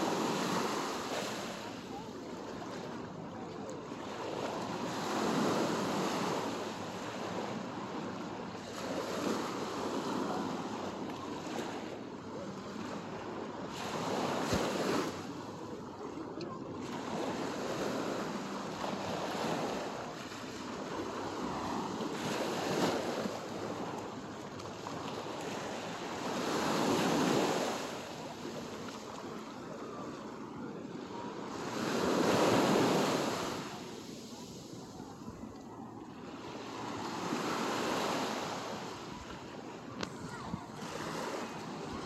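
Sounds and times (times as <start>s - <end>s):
waves washing up a beach: 0.0s - 42.0s.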